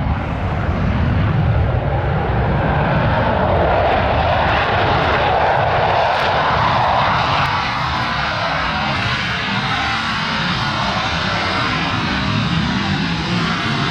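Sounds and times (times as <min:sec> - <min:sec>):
airplane engine flying past: 0:00.0 - 0:13.9.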